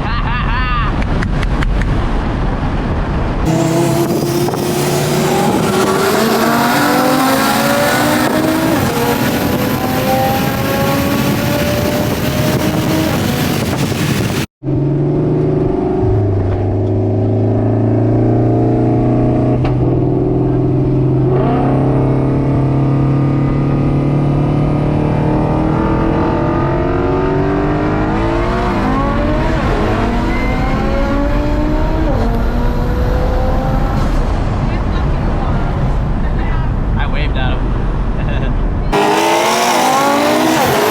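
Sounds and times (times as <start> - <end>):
car engines accelerating: 0.9 - 40.9.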